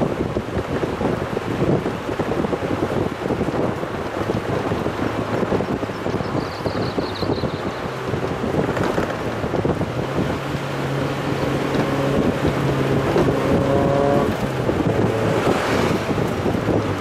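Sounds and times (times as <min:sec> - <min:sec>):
car engine running: 0:00.0 - 0:17.0
wind rumble on microphone: 0:00.0 - 0:17.0.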